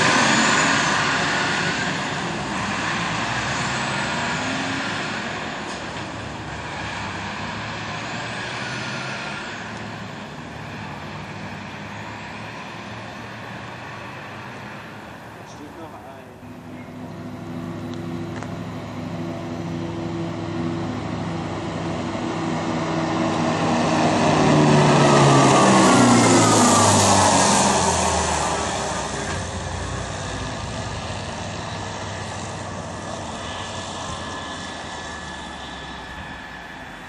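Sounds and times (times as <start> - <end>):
armoured vehicle driving past: 0.0 - 37.0.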